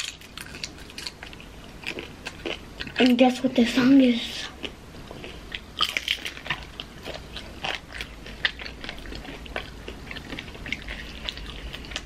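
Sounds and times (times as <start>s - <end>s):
people crunching and chewing: 0.0s - 3.9s, 4.5s - 12.0s.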